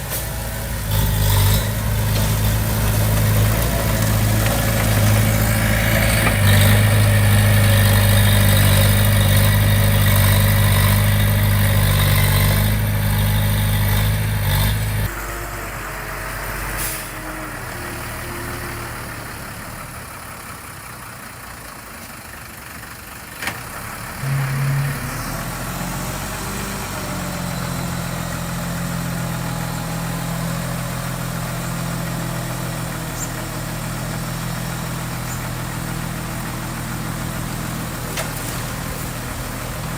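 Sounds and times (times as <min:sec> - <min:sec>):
diesel engine of heavy machinery: 0:00.0 - 0:39.9.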